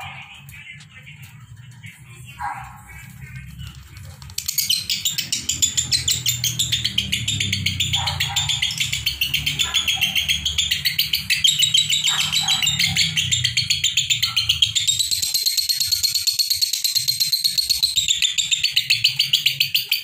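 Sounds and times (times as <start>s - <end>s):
lovebirds chattering high chirps: 0.0s - 20.0s.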